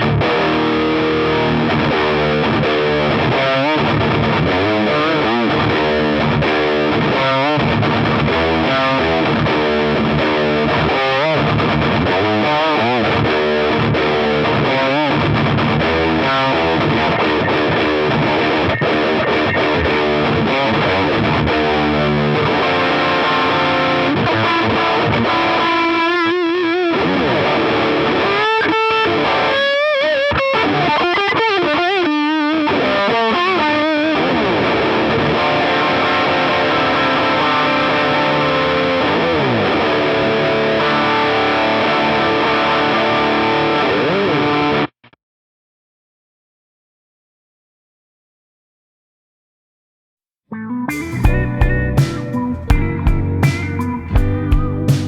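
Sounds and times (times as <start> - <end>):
distorted electric guitar: 0.0 - 44.9, 50.6 - 55.0.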